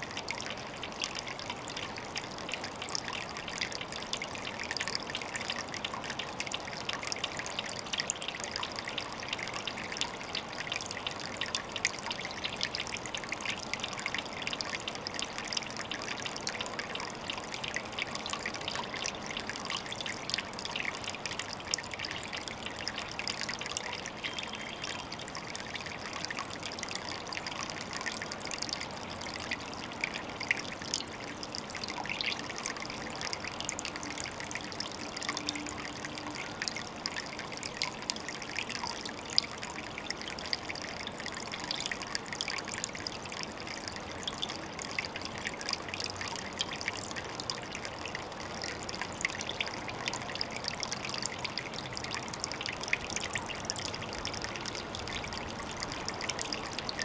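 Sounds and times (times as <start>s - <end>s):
tiny splashes and drips: 0.0s - 57.0s
water trickling: 0.0s - 57.0s.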